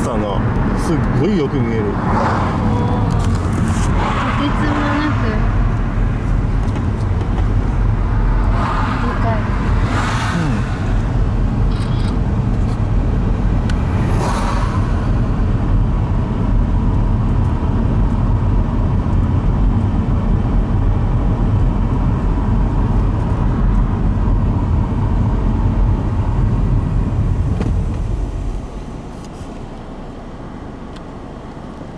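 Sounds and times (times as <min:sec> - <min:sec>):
car road and engine rumble: 0:00.0 - 0:31.9.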